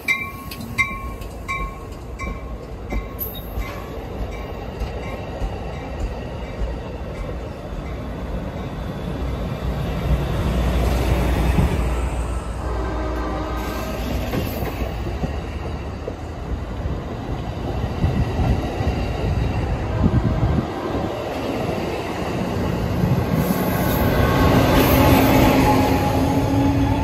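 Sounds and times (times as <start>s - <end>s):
diesel locomotive engine drone: 0.0s - 27.0s
passenger train rumbling past: 0.0s - 27.0s.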